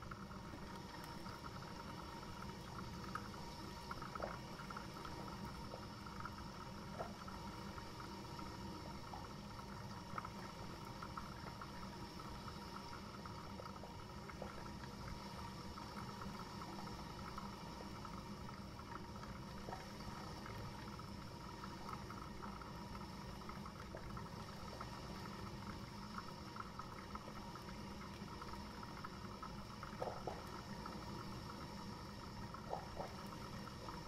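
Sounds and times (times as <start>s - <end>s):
coffee maker brewing: 0.0s - 34.0s.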